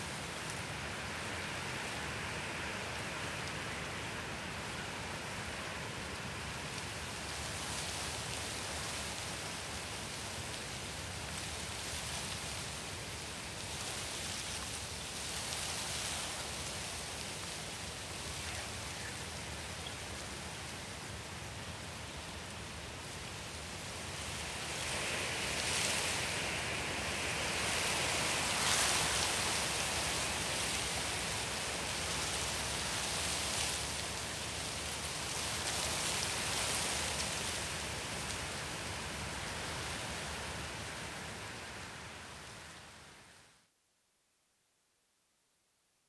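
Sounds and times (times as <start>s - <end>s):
rushing rain-like noise: 0.0s - 43.8s.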